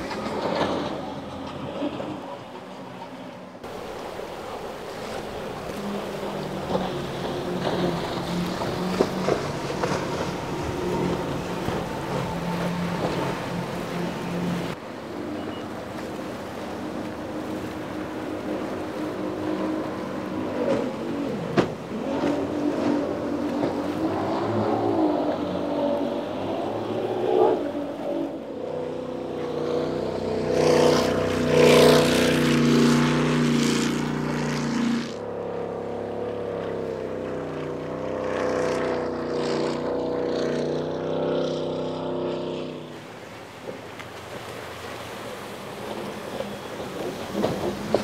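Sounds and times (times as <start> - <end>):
hull slapping waves: 0.0 - 48.0
speedboat engines droning: 0.0 - 48.0.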